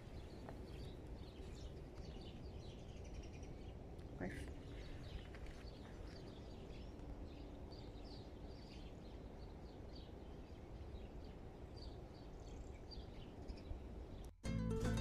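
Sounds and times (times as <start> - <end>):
small birds chirping: 0.0 - 14.3.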